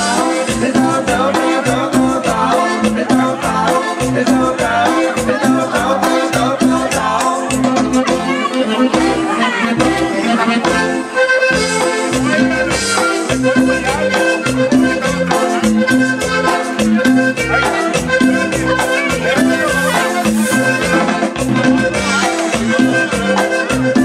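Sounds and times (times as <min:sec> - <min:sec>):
accordion dance music: 0:00.0 - 0:24.0.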